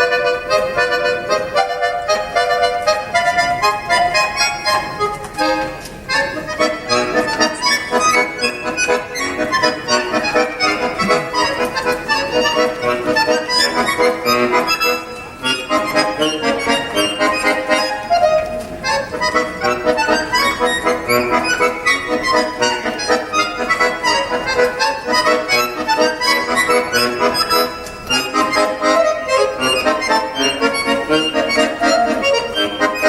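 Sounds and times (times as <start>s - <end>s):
accordion playing a tune: 0.0s - 33.0s.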